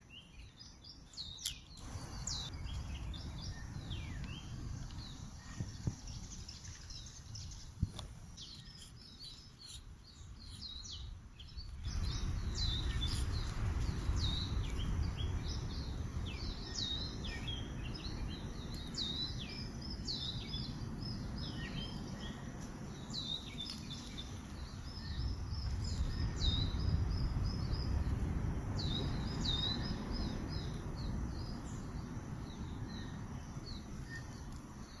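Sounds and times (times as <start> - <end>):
small birds chirping: 0.0 - 35.0
steady low rumble: 1.8 - 8.6, 10.1 - 35.0.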